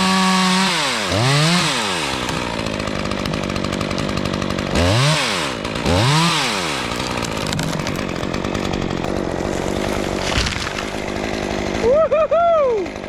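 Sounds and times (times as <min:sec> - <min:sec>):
chainsaw idling and revving: 0:00.0 - 0:13.0.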